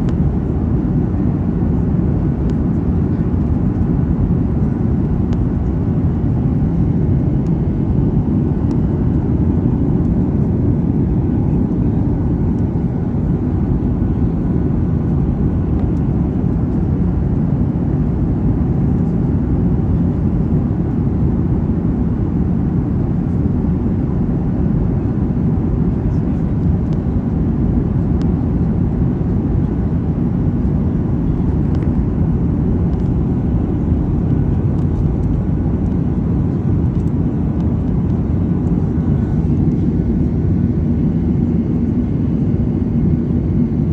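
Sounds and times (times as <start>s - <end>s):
jet airliner cabin rumble: 0.0s - 43.9s.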